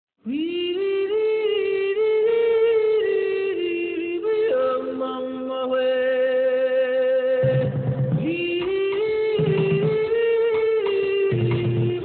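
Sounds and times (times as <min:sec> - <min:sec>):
person singing wordless melody: 0:00.2 - 0:12.0.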